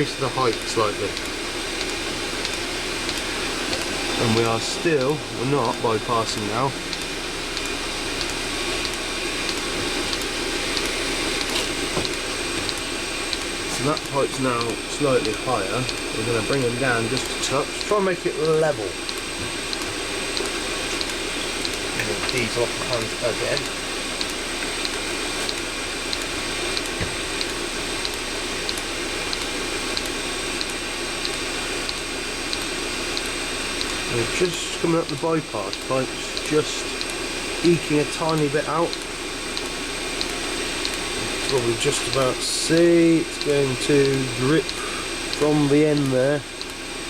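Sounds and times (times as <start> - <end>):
heater motor whirr: 0.0 - 47.0.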